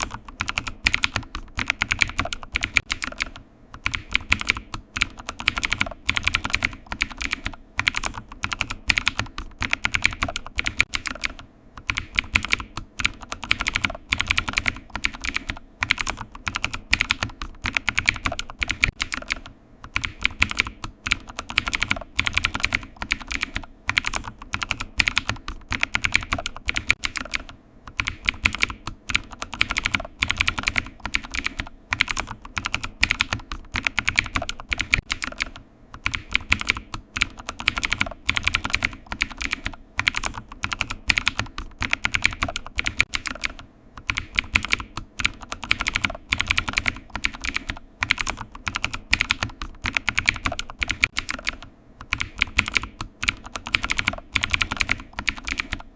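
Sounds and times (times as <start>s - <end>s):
computer keyboard typing: 0.0s - 55.9s.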